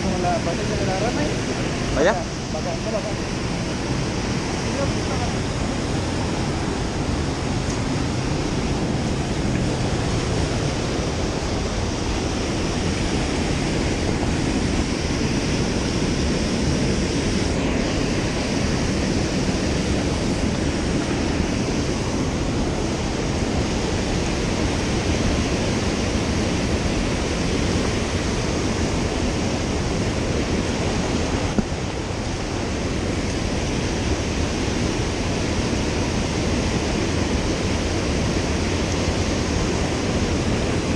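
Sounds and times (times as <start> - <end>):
river water running: 0.0 - 40.9.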